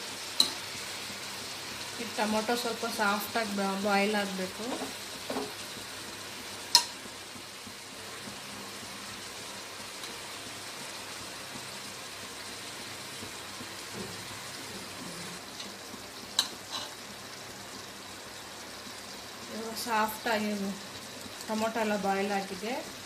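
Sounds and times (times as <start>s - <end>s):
food sizzling in a pot: 0.0s - 23.0s.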